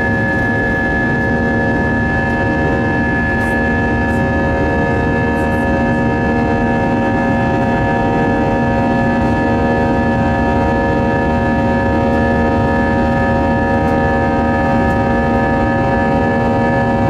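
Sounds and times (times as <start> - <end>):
jet engine drone in cabin: 0.0 - 17.0
whining tones: 0.0 - 17.0.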